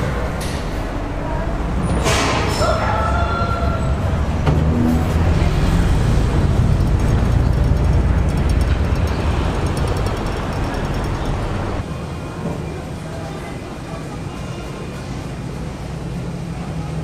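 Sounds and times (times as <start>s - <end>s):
ferry engine rumbling: 0.0s - 17.0s.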